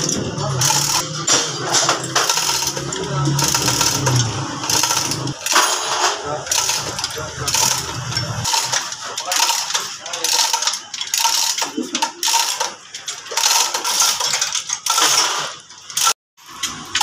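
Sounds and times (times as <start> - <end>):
chain hoist rattling and clinking: 0.0 - 17.0.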